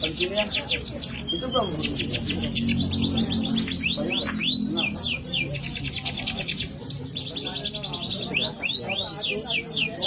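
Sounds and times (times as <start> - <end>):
canary singing trills: 0.0 - 10.0.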